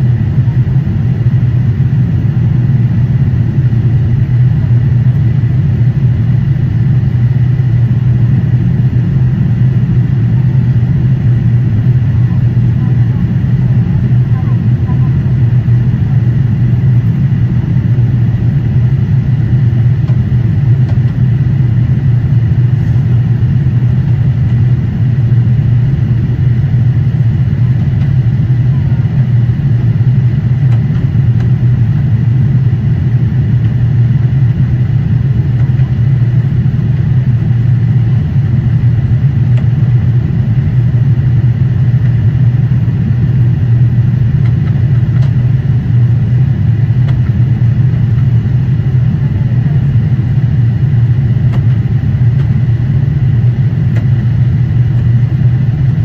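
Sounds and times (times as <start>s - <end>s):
jet cabin engine drone: 0.0s - 56.0s.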